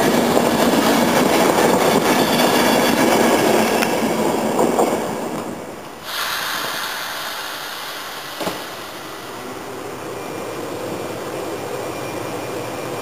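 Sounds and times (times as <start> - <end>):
distant electric locomotive whir: 0.0 - 13.0
train coaches rumbling on rails: 0.0 - 13.0.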